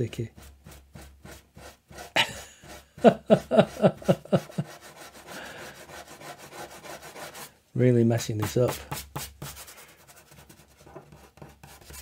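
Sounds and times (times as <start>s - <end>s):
cloth rubbing on paper: 0.0s - 7.5s, 8.4s - 12.0s.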